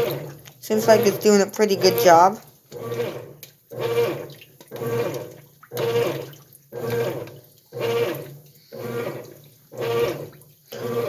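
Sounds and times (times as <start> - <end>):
washing machine agitator sloshing water: 0.0 - 11.0
washing machine drive hum: 0.0 - 11.0.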